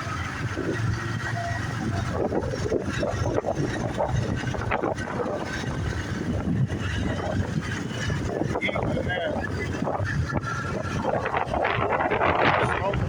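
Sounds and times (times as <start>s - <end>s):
motorbike engine: 0.0s - 13.0s
street traffic rushing: 0.0s - 13.0s
wind buffeting microphone: 0.0s - 13.0s.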